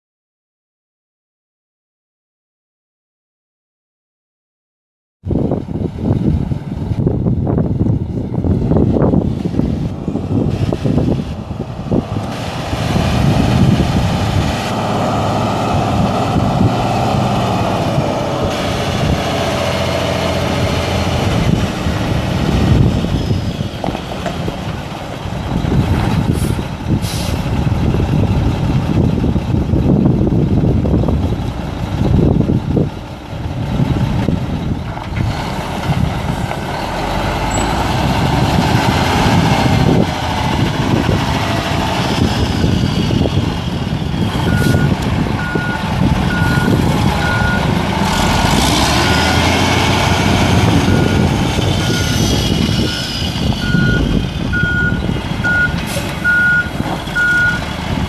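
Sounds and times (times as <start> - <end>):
diesel truck engine running: 5.3 - 58.0.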